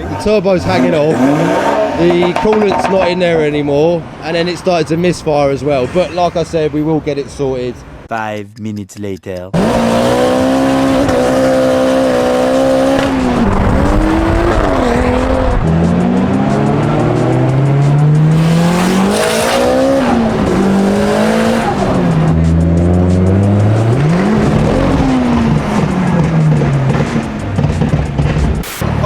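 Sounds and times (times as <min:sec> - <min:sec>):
car engine revving: 0:00.0 - 0:06.0, 0:09.5 - 0:29.0.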